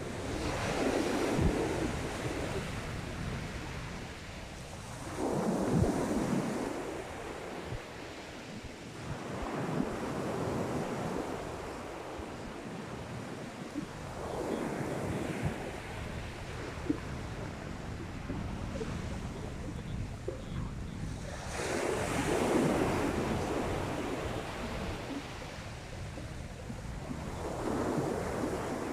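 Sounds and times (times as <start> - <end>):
sea waves breaking on beach: 0.0 - 28.9.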